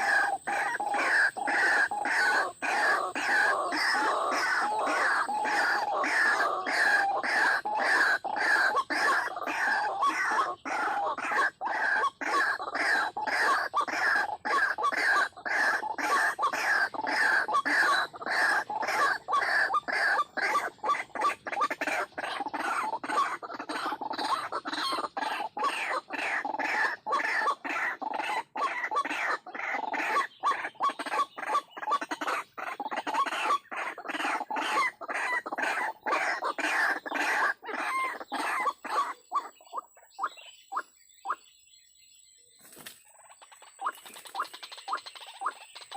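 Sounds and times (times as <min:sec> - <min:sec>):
waterhen calling: 0:00.0 - 0:41.5, 0:42.6 - 0:45.9.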